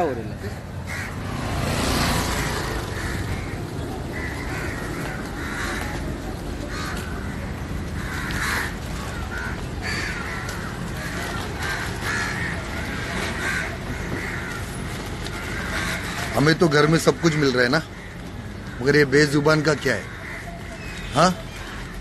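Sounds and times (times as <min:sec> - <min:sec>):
crows cawing: 0:00.0 - 0:22.0.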